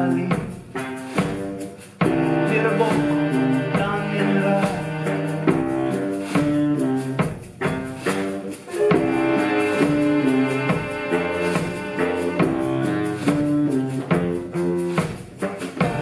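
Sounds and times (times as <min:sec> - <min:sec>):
percussion strikes: 0:00.0 - 0:16.0
instruments playing held notes: 0:02.0 - 0:16.0.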